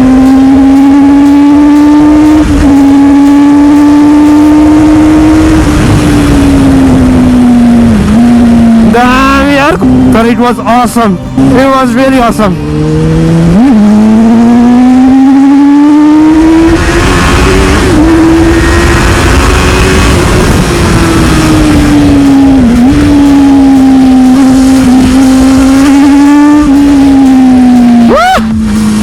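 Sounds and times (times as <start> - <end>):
motorcycle engine at high revs: 0.0 - 29.0
rushing noise: 0.0 - 29.0.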